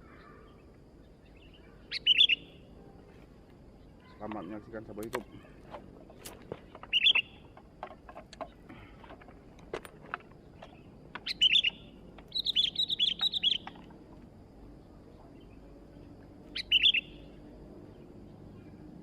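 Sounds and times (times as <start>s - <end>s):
bulbul singing: 0.0s - 2.8s, 3.8s - 7.7s, 10.4s - 19.0s.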